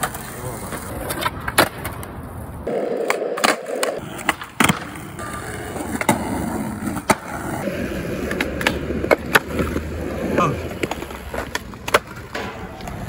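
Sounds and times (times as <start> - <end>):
skateboard clacks: 0.0 - 13.0
skateboard wheels rolling on concrete: 0.0 - 13.0.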